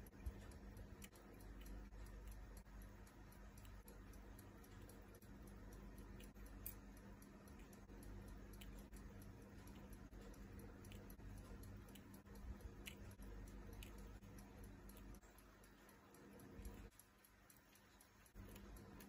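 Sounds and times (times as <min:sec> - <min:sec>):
low steady hum: 0:00.0 - 0:19.0
tweezers clicking on watch parts: 0:00.0 - 0:19.0.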